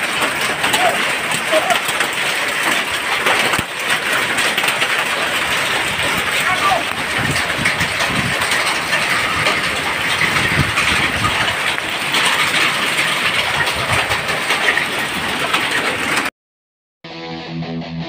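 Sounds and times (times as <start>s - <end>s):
hail clattering: 0.0s - 16.3s
hiss of hail and rain: 0.0s - 16.3s.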